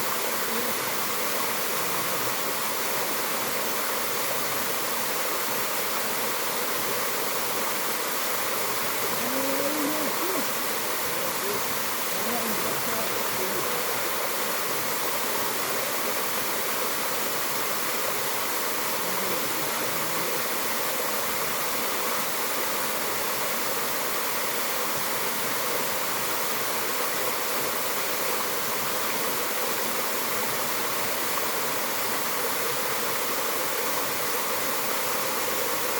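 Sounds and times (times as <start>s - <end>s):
waterfall pouring and splashing: 0.0s - 35.9s.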